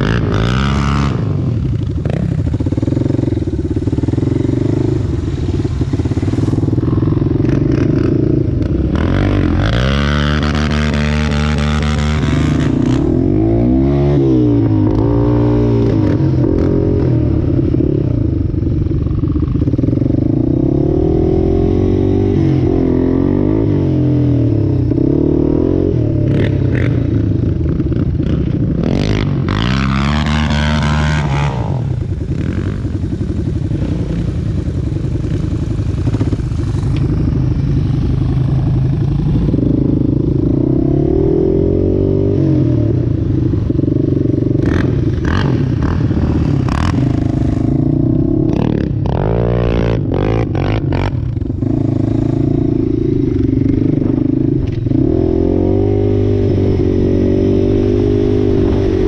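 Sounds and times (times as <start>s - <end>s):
off-road vehicle engine revving: 0.0s - 18.1s, 28.2s - 59.0s.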